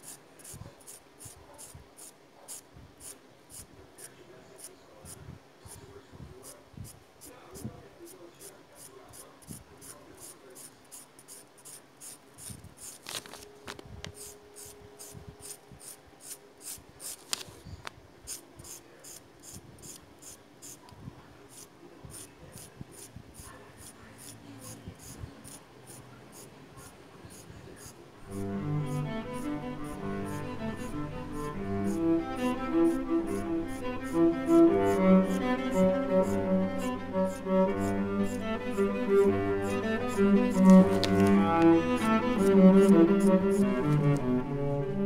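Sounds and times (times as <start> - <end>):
pencil scratching on board: 0.0 - 4.7, 8.4 - 13.0, 14.1 - 17.4, 18.3 - 20.8, 21.5 - 44.2.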